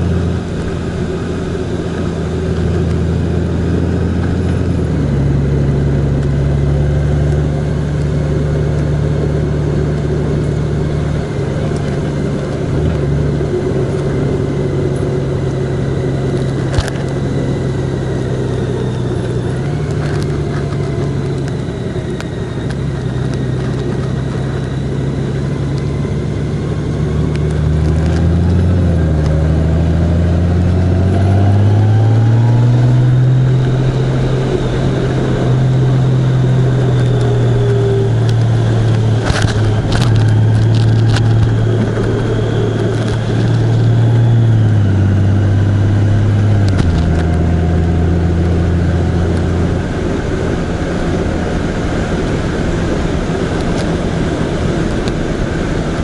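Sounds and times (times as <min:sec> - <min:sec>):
road noise: 0:00.0 - 0:56.0
vehicle engine running: 0:00.0 - 0:56.0.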